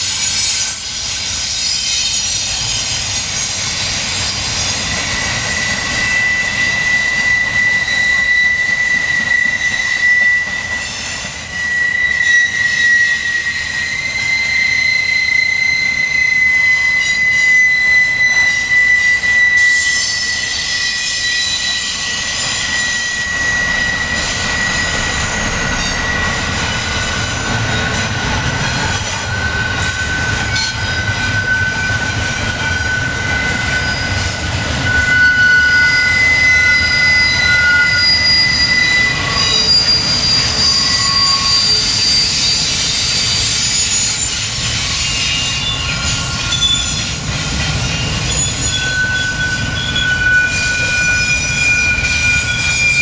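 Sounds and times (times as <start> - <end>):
train cars rumbling on rails: 0.0 - 53.0
train wheels squealing: 0.0 - 53.0.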